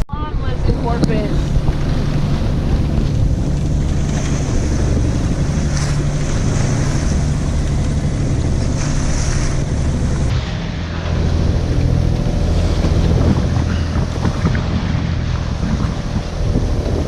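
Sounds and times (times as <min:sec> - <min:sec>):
boat engine droning: 0:00.0 - 0:17.0
wind buffeting microphone: 0:00.0 - 0:17.0
waves washing past hull: 0:00.1 - 0:17.0.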